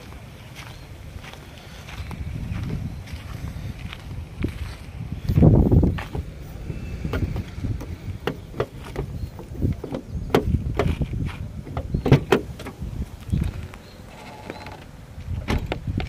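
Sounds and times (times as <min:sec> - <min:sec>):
footsteps on dry ground: 0:00.0 - 0:14.0.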